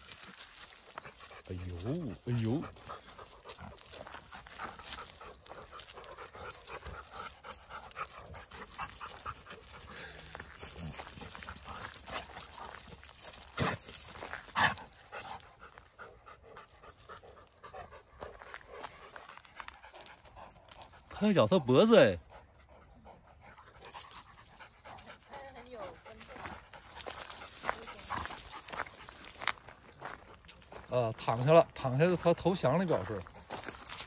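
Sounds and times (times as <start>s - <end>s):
paws scuffing gravel: 0.0s - 21.2s, 23.7s - 34.0s
dogs panting: 0.0s - 34.0s.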